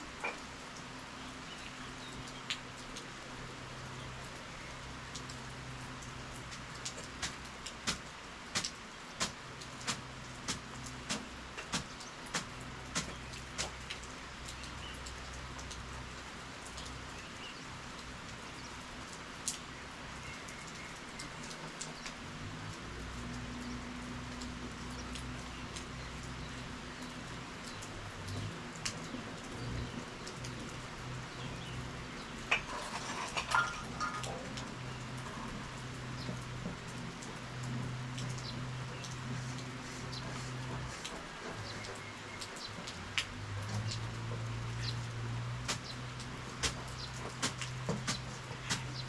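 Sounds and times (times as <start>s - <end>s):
rainfall hiss: 0.0s - 49.0s.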